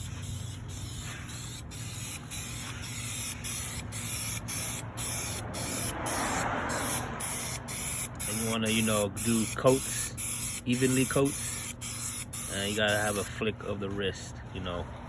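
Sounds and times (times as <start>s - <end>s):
spray paint can hissing: 0.0s - 13.3s.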